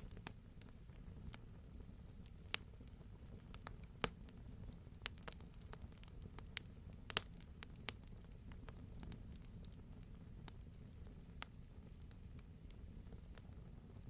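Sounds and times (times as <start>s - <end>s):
burning wood popping: 0.0s - 13.7s
low rumble of flames: 0.0s - 14.0s.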